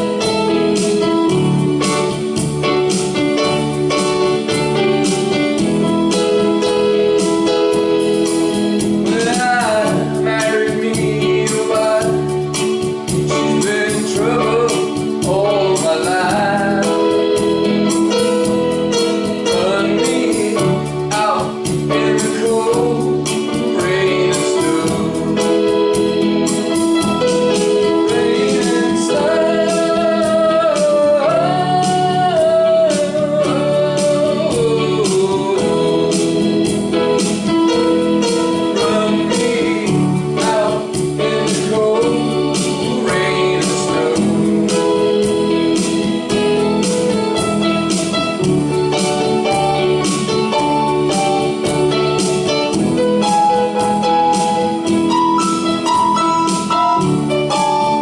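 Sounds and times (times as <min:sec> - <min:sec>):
drums: 0:00.0 - 0:58.0
organ: 0:00.0 - 0:58.0
person singing: 0:00.0 - 0:58.0.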